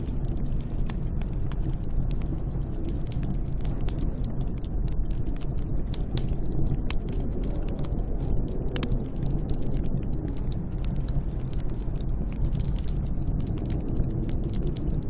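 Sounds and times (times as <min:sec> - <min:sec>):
sharp crackles and clicks: 0:00.0 - 0:15.0
snowstorm wind rumbling: 0:00.0 - 0:15.0.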